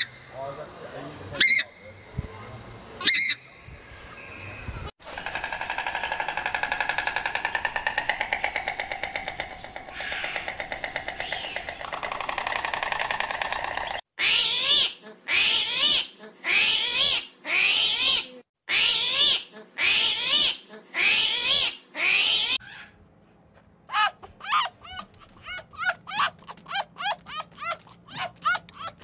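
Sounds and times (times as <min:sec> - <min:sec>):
animal calls: 0:00.0 - 0:00.6, 0:01.4 - 0:02.2, 0:05.0 - 0:23.0, 0:23.9 - 0:29.0.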